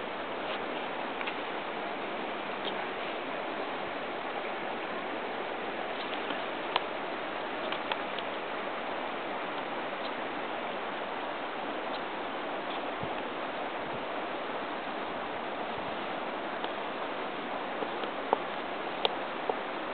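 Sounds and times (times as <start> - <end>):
river rushing over rocks: 0.0 - 19.9.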